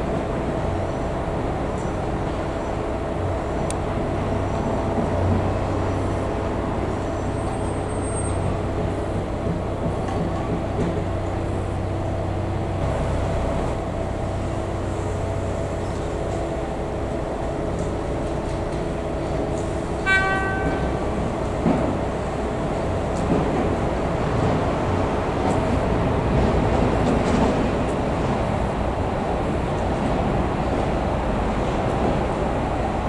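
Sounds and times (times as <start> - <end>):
locomotive humming: 0.0 - 33.0.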